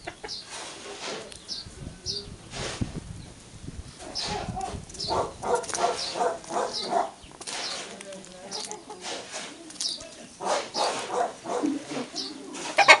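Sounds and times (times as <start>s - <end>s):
chickens clucking: 0.0s - 2.7s, 4.0s - 13.0s.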